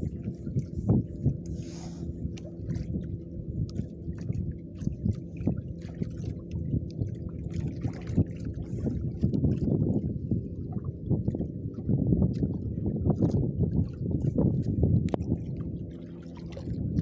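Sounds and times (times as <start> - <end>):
boat engine running: 0.0 - 17.0
water slapping against hull: 0.0 - 17.0.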